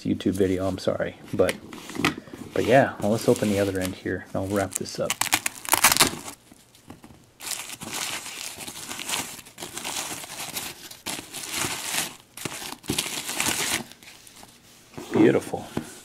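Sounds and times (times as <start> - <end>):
bubble wrap crinkling: 1.8 - 14.7.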